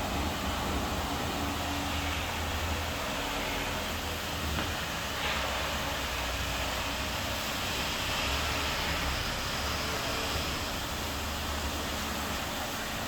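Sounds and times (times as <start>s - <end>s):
cleaning machine hissing and humming: 0.0s - 13.0s.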